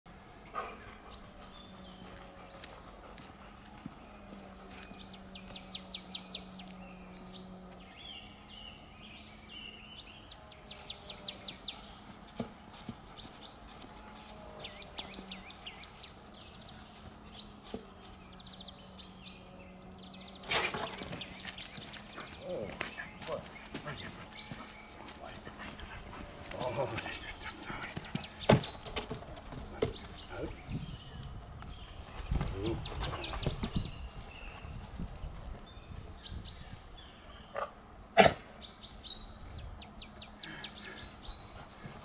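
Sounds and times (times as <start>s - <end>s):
songbirds chirping and trilling: 0.1s - 42.0s.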